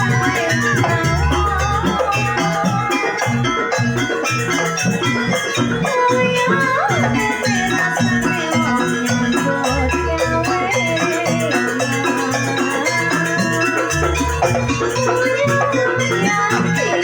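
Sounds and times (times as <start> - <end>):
metal percussion and drums: 0.0 - 17.0
wavering melody line: 0.0 - 17.0.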